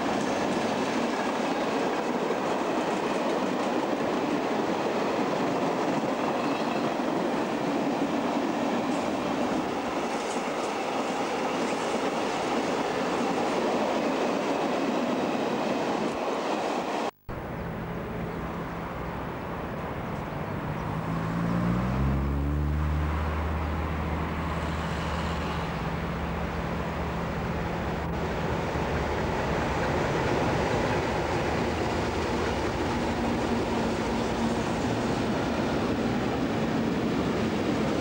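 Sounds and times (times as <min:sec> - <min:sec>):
diesel locomotive engines droning: 0:00.0 - 0:38.0.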